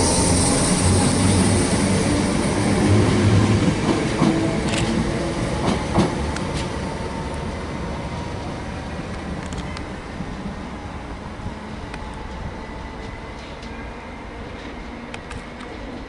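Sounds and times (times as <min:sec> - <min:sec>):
train running past: 0:00.0 - 0:16.0.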